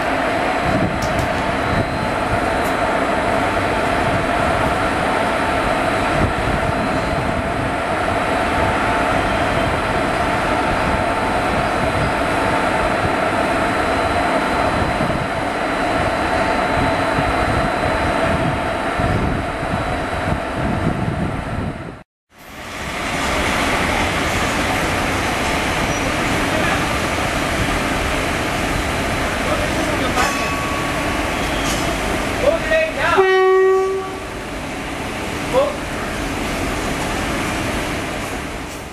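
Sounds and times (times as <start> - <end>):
electric locomotive humming and whining: 0.0 - 38.9.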